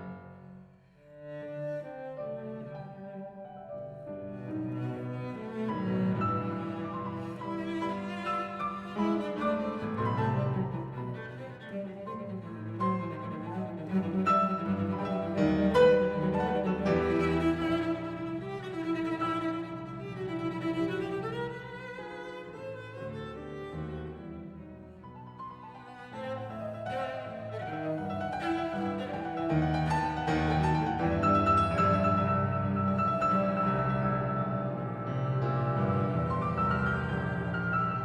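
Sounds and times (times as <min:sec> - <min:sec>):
cello violin and piano music: 0:00.0 - 0:38.0.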